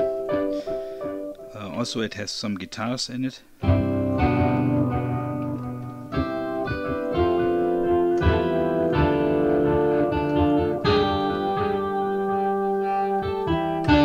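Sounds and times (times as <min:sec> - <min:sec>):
keyboard organ chords: 0:00.0 - 0:02.2, 0:03.6 - 0:14.0.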